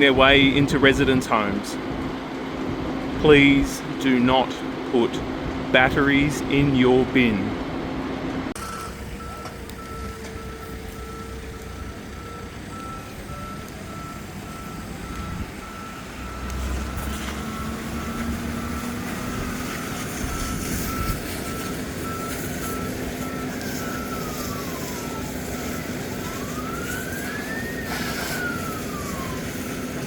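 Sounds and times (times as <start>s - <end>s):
truck engine running: 0.0s - 30.0s
truck reversing alarm beeping: 0.0s - 30.0s.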